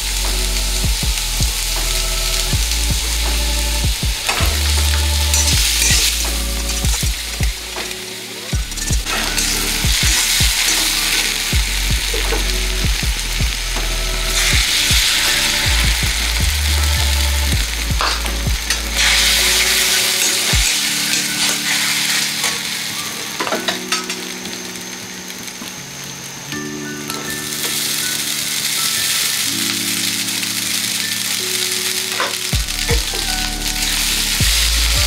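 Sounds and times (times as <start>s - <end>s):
onions sizzling in hot oil: 0.0s - 25.8s, 26.4s - 35.0s
egg frying with loud sizzle: 0.0s - 25.9s, 26.5s - 35.0s.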